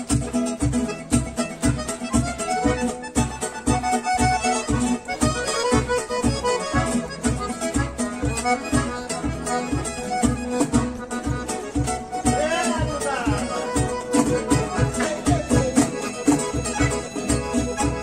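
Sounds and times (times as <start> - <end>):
accordion melody: 0.0 - 18.0
bass beat: 0.0 - 18.0.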